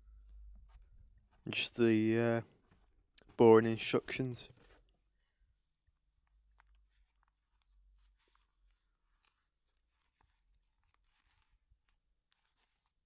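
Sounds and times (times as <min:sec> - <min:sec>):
paper leaflet rustling: 0:00.2 - 0:13.0.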